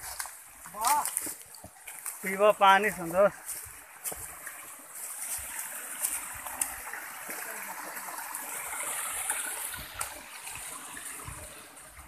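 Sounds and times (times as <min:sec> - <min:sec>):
stream cascading over rocks: 0:00.0 - 0:12.0.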